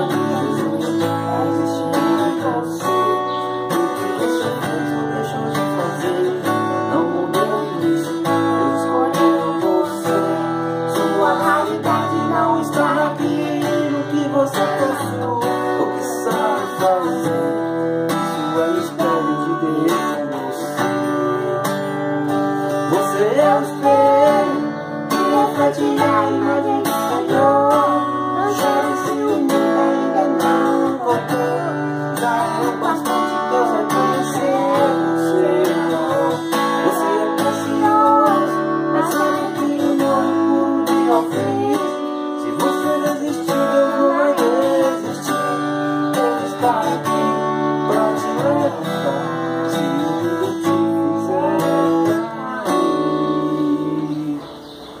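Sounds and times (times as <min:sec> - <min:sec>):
boy and man singing: 0:00.0 - 0:54.8
acoustic guitar strumming: 0:00.0 - 0:55.0.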